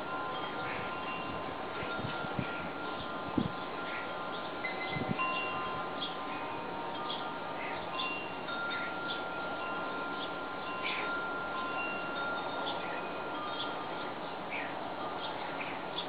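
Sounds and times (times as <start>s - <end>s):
wind chimes ringing: 0.0s - 16.0s
wind hiss: 0.0s - 16.0s.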